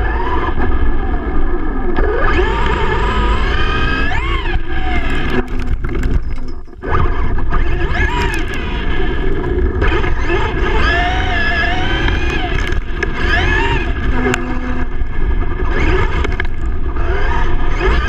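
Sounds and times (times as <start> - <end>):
electric motor whining: 0.0 - 18.0
tyres rumbling on rough pavement: 0.0 - 18.0
wind on microphone: 0.0 - 18.0.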